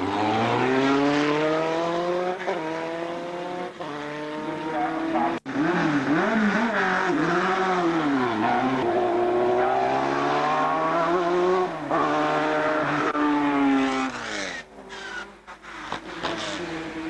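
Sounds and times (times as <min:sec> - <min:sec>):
racing car engine revving: 0:00.0 - 0:14.6.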